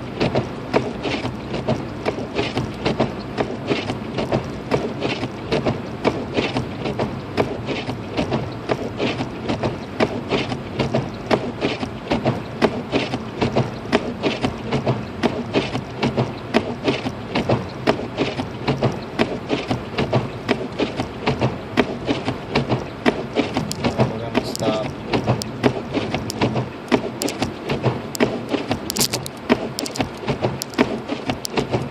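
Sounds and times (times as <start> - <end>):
road and engine hum: 0.0 - 31.9
rapid irregular clicking: 0.2 - 31.9.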